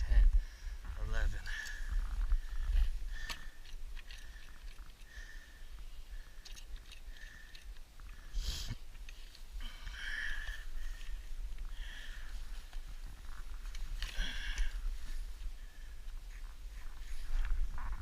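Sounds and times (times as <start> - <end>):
low wind rumble: 0.0 - 18.0.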